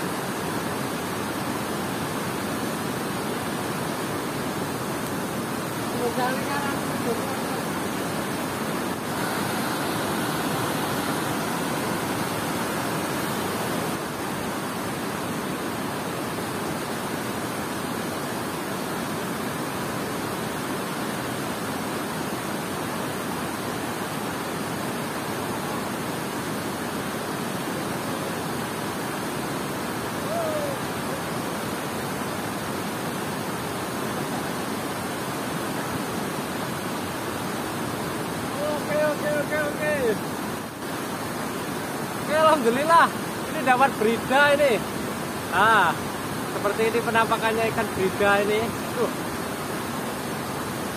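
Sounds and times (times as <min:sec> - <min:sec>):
water rushing over spillway: 0:00.0 - 0:50.9.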